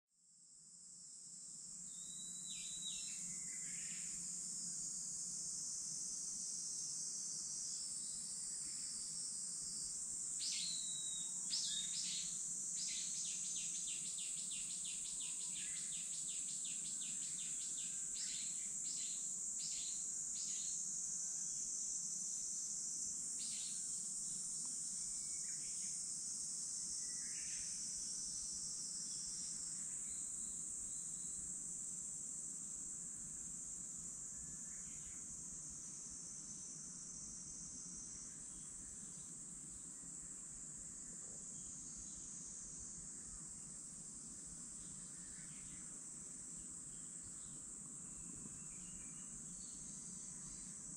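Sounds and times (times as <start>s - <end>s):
high-pitched insect chorus: 1.0s - 50.9s.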